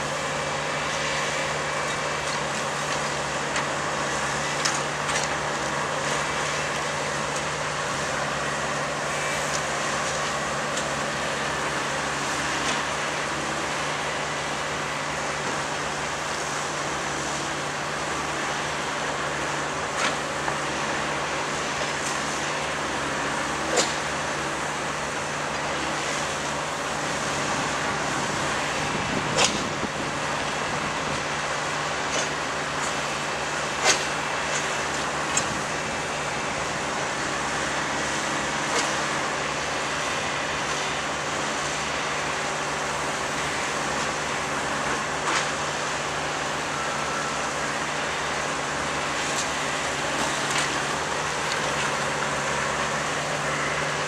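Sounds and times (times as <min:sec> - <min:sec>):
track maintenance machinery running: 0:00.0 - 0:54.0.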